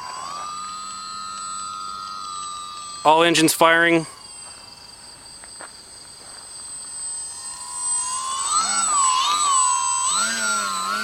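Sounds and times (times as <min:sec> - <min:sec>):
model airplane motor whining: 0:00.0 - 0:11.0.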